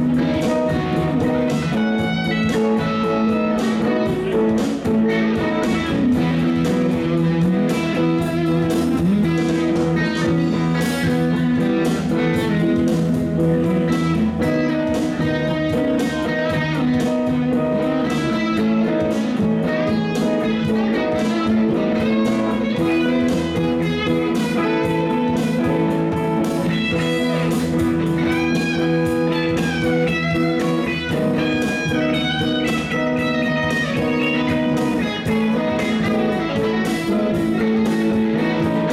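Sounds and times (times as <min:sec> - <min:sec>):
drum kit: 0:00.0 - 0:38.9
electric bass guitar: 0:00.0 - 0:38.9
electric guitars: 0:00.0 - 0:38.9
guitar line with bending notes: 0:00.0 - 0:38.9.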